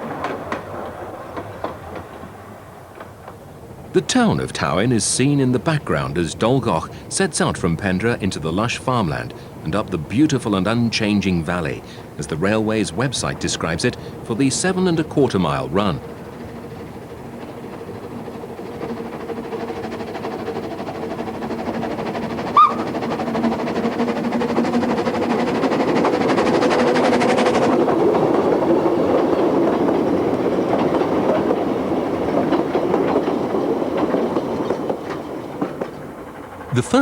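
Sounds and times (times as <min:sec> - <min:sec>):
steam train wheels clattering: 0:00.0 - 0:37.0.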